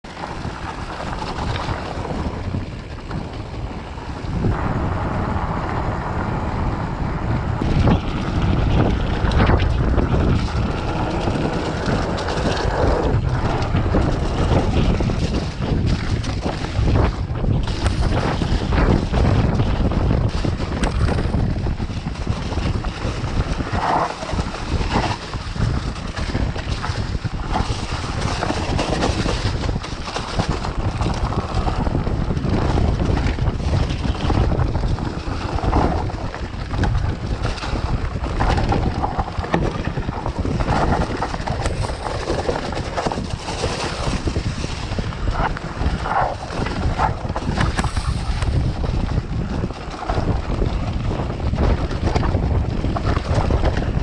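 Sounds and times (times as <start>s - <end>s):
bike knocking and rattling: 0.0s - 54.0s
wind buffeting microphone: 0.0s - 54.0s.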